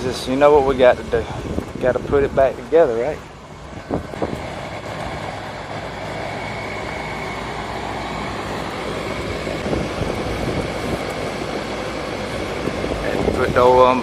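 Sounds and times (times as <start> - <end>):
vacuum pump running: 0.0 - 14.0.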